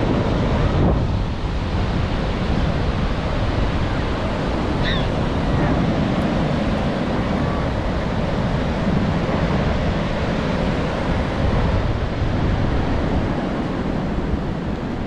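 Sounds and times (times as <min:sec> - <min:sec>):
ocean surf washing: 0:00.0 - 0:15.0
wind on microphone: 0:00.0 - 0:15.0.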